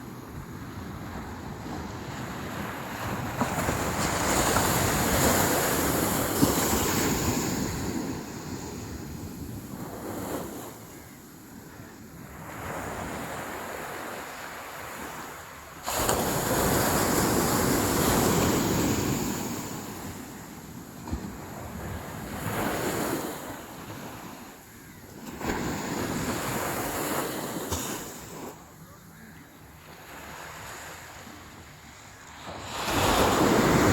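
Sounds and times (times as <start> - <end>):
sea waves breaking on shore: 0.0 - 11.1, 11.7 - 33.9.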